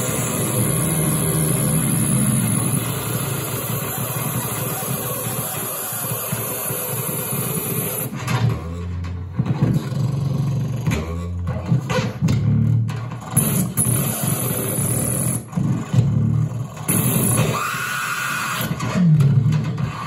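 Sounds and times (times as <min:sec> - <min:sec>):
low stuttering drones: 0:00.0 - 0:17.6.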